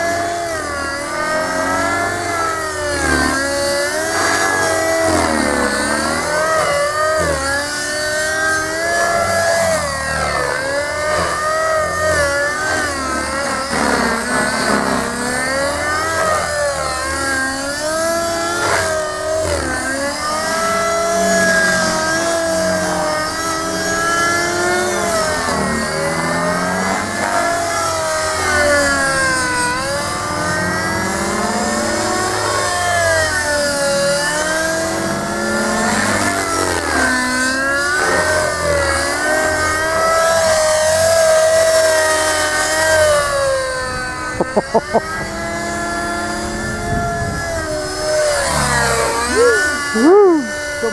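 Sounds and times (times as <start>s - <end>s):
radio-controlled helicopter whine: 0.0s - 50.9s.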